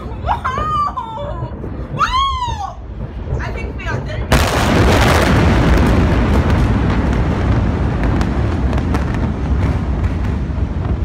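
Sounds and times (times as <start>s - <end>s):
explosion rumble: 0.0s - 11.0s.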